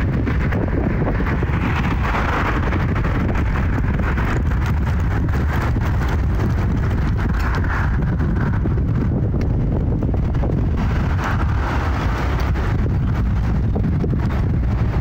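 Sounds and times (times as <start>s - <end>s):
jet engines rumbling overhead: 0.0s - 15.0s
wind buffeting microphone: 0.0s - 15.0s.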